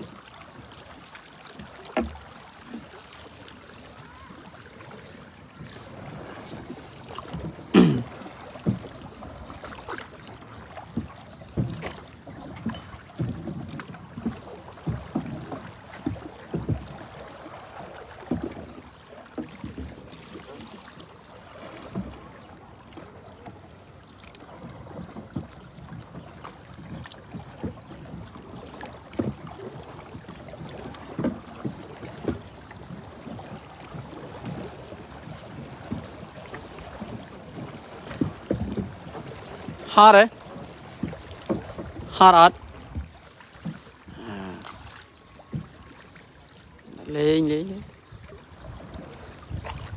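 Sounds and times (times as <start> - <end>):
paddle splashing water: 0.0 - 49.9
water swishing along hull: 0.0 - 49.9.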